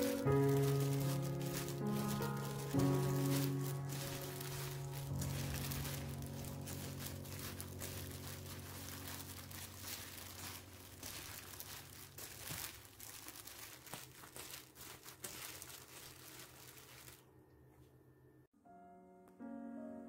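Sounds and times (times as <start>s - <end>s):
wet leaves rustling in a bowl: 0.0s - 17.4s
plastic glove crinkling: 0.0s - 18.0s.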